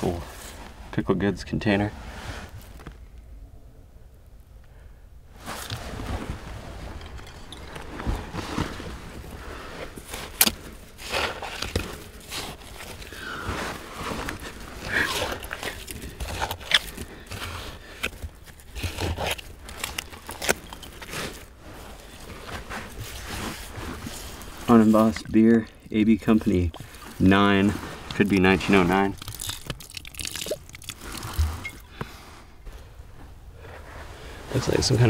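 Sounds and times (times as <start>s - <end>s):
hands scraping through soil: 5.4s - 35.0s.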